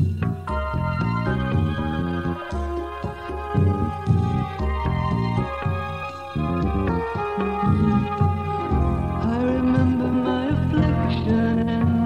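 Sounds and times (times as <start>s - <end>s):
instrumental christian music: 0.0s - 12.0s.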